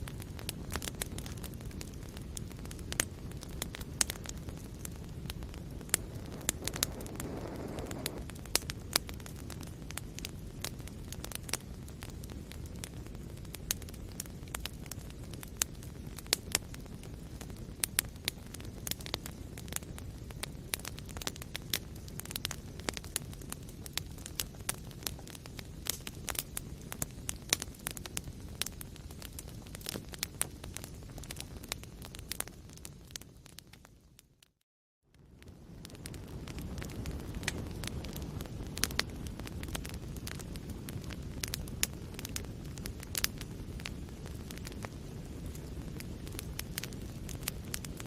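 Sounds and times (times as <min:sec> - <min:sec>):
wood fire crackling and popping: 0:00.0 - 0:48.0.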